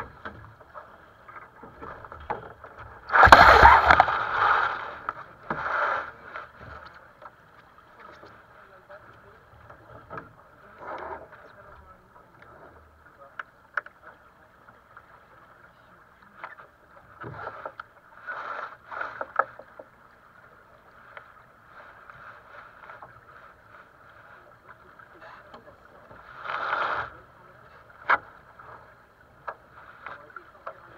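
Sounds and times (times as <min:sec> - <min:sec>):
water splashing along boat hull: 0:00.0 - 0:30.9.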